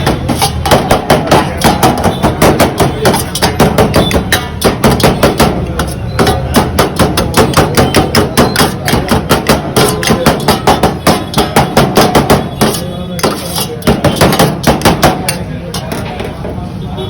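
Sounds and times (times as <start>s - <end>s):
knife chopping on a board: 0.0s - 15.5s.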